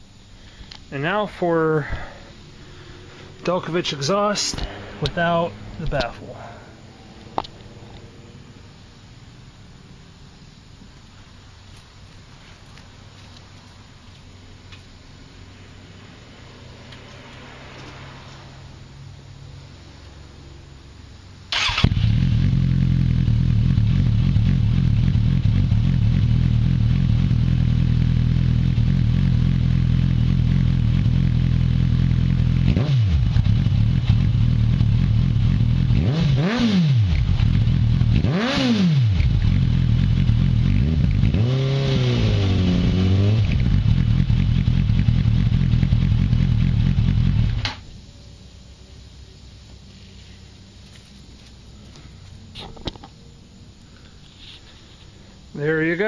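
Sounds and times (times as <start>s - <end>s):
motorcycle engine idling and revving: 1.2s - 10.4s, 11.7s - 48.6s.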